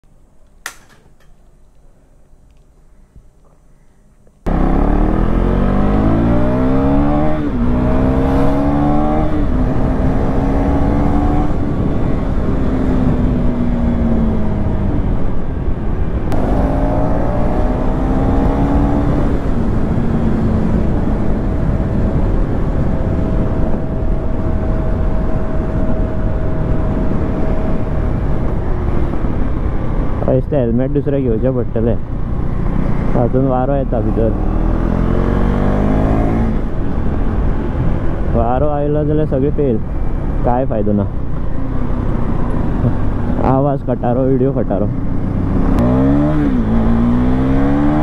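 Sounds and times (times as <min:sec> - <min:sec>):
motorcycle engine accelerating: 0:04.4 - 0:30.4, 0:31.4 - 0:38.7, 0:39.9 - 0:48.0
wind rumble on microphone: 0:05.1 - 0:48.0.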